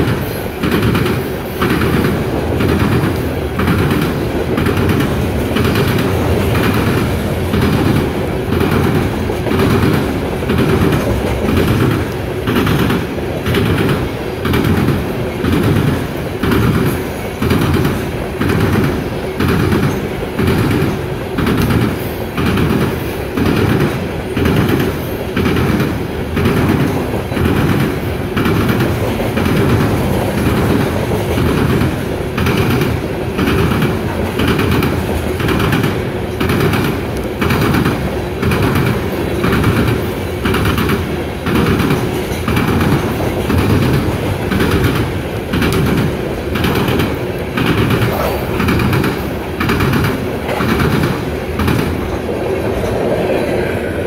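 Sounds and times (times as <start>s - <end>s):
clickety-clack over track joints: 0.0s - 54.0s
train wheels rumbling on rail: 0.0s - 54.0s.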